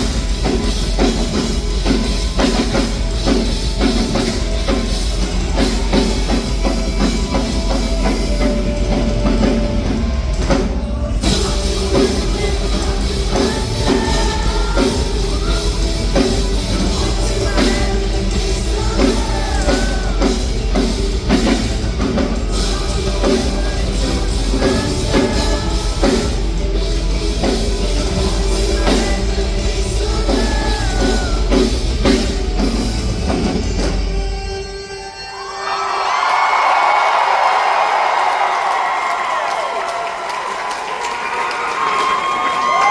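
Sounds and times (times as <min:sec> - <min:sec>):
live rock band playing: 0:00.0 - 0:35.5
person singing: 0:00.0 - 0:36.0.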